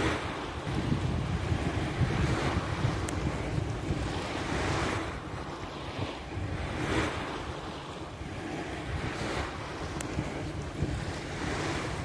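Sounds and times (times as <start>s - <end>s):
sea waves washing in: 0.0s - 12.0s
wind: 0.0s - 12.0s.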